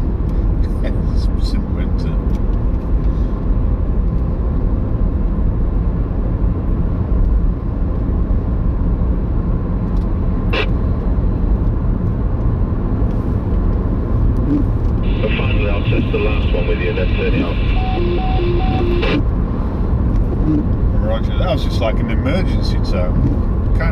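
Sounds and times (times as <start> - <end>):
road and engine rumble in car: 0.0 - 23.9.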